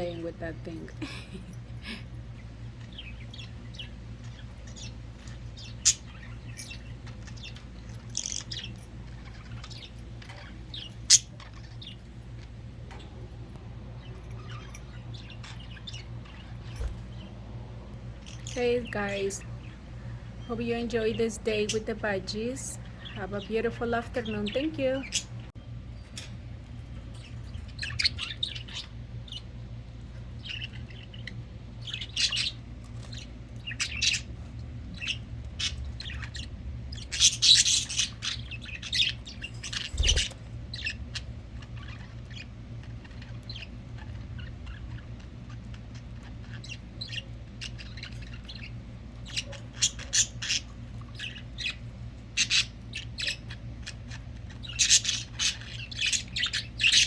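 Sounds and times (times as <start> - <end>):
budgerigars chirping and squawking: 0.0 - 13.2, 14.0 - 17.4, 18.2 - 25.5, 26.2 - 57.0.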